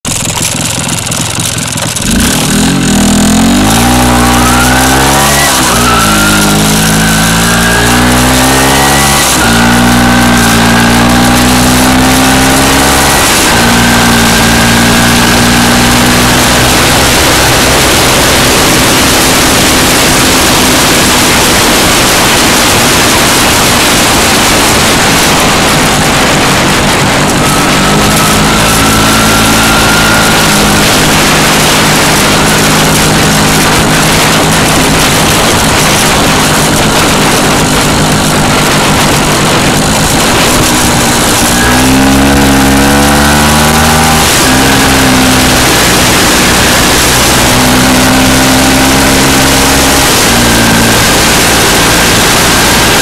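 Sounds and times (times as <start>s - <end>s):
motorcycle engine accelerating: 0.0s - 53.0s
wind rush on microphone: 2.1s - 53.0s.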